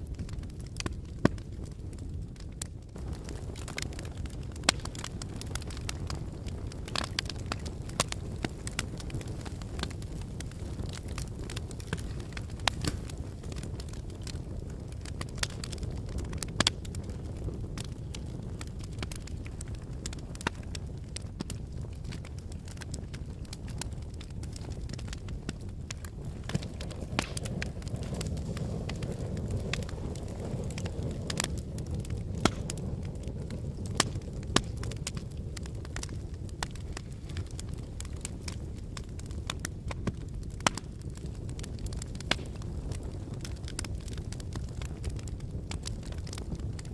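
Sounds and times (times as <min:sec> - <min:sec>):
fire snapping and popping: 0:00.0 - 0:46.9
low rumble of burning: 0:00.0 - 0:46.9
wood fire crackling: 0:00.0 - 0:46.9.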